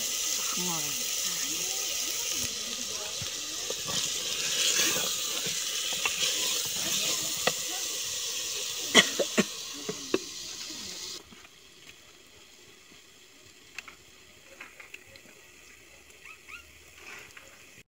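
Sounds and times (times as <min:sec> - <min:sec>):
curry hissing and bubbling in pot: 0:00.0 - 0:17.8.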